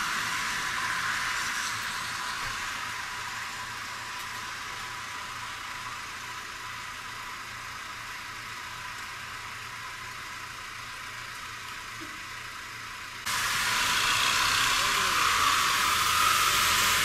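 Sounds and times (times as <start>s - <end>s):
traffic on wet road: 0.0s - 17.0s.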